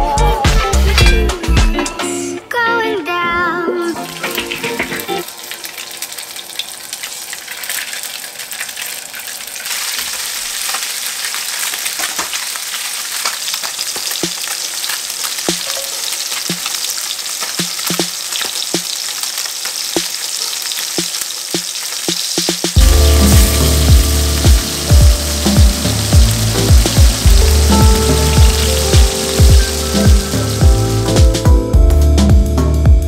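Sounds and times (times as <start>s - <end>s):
fish sizzling in hot oil: 4.0s - 31.5s.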